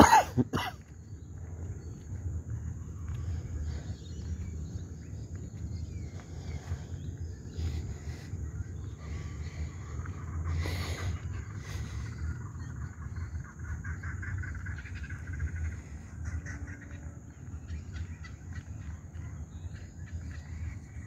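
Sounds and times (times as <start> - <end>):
birds chirping: 0.0 - 21.0
wind rumble on microphone: 0.4 - 21.0.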